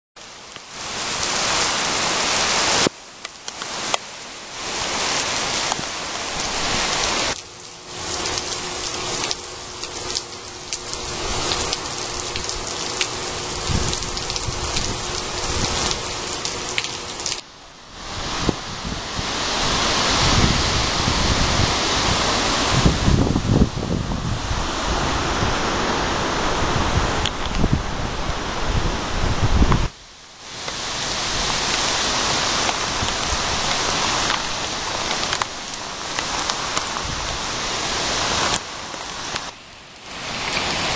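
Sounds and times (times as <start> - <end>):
heavy rain on pavement: 0.2 - 40.9
wind gusts buffeting microphone: 4.6 - 30.0, 30.9 - 38.6.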